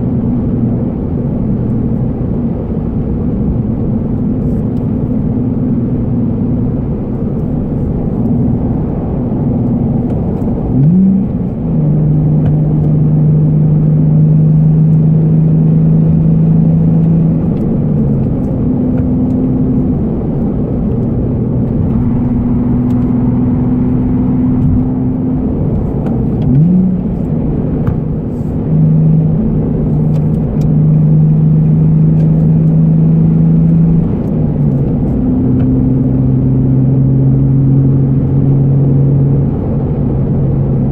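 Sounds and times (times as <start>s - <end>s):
car exhaust drone: 0.0s - 40.9s.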